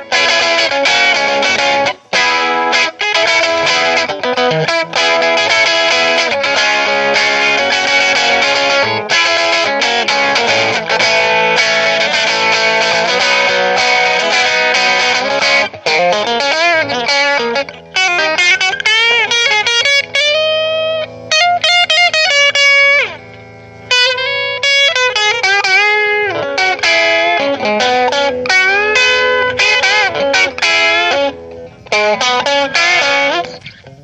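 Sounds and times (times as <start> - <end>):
electric guitar lead with string bends: 0.0 - 34.0.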